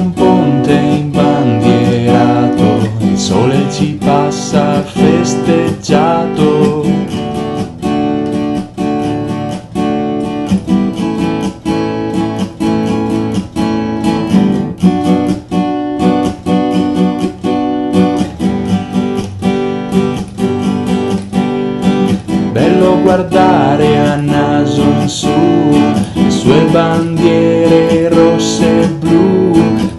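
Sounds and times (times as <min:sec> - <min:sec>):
guitar chords strummed: 0:00.0 - 0:29.9.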